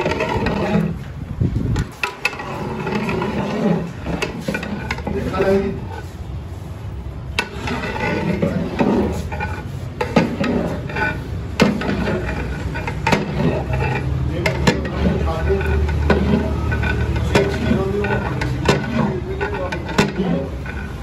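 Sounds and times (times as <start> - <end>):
background voices: 2.0 - 6.2, 7.4 - 21.0.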